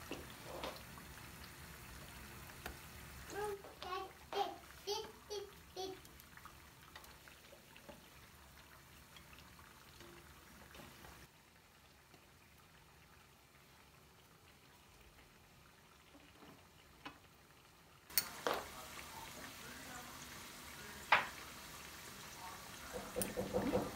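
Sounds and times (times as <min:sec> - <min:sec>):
low hiss: 0:00.0 - 0:23.9.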